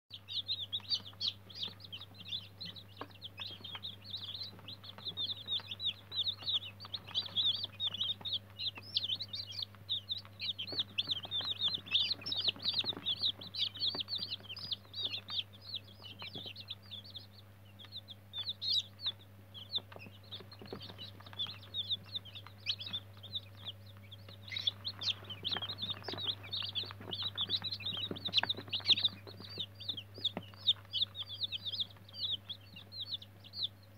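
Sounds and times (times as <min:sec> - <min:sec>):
chicks peeping: 0:00.1 - 0:33.9
faint low hum: 0:00.1 - 0:33.9.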